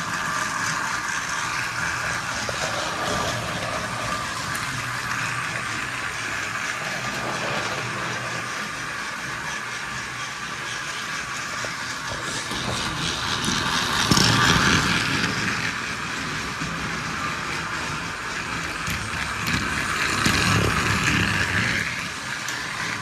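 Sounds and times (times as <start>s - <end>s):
toy train motor whine: 0.0s - 23.0s
toy train wheels rattling: 0.0s - 23.0s.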